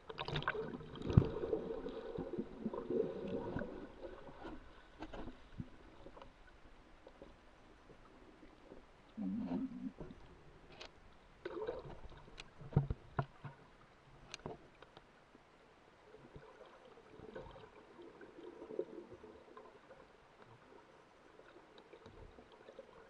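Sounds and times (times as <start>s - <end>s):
underwater sloshing and bubbling: 0.0s - 23.0s.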